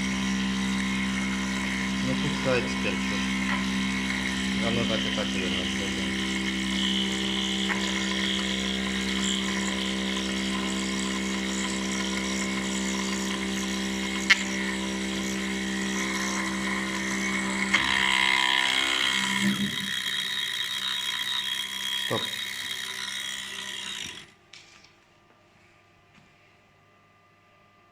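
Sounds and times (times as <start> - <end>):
high whirring hiss: 0.0 - 24.2
milling machine motor hum: 0.0 - 24.4.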